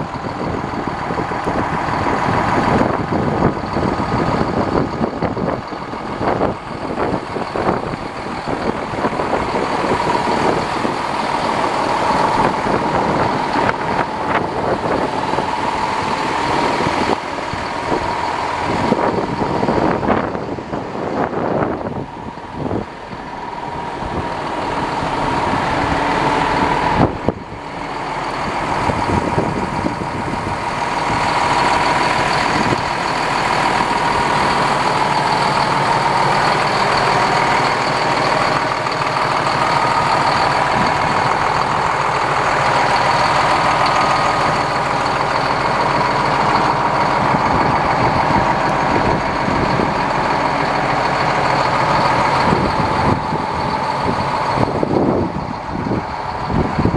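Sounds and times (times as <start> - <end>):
diesel engine idling: 0.0 - 56.9
engine whine: 0.0 - 56.9.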